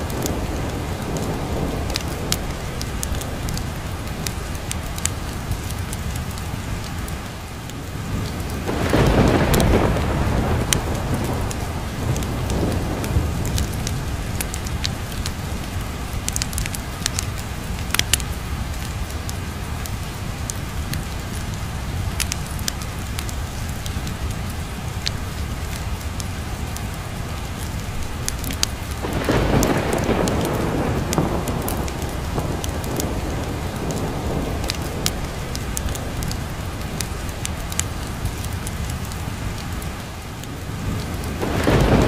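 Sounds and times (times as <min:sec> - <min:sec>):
low rumble of thunder: 0:00.0 - 0:06.8, 0:07.7 - 0:25.7, 0:27.0 - 0:42.0
sharp crackles: 0:00.0 - 0:42.0
steady rain: 0:00.0 - 0:42.0.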